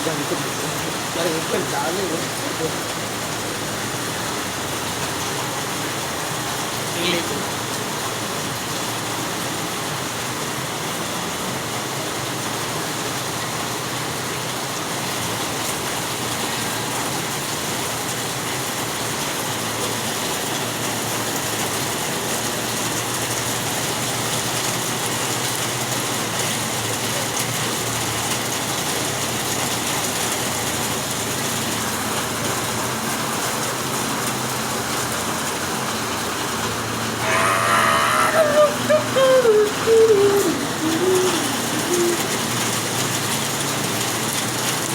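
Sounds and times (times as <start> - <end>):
heavy rain and rushing floodwater: 0.0 - 44.9.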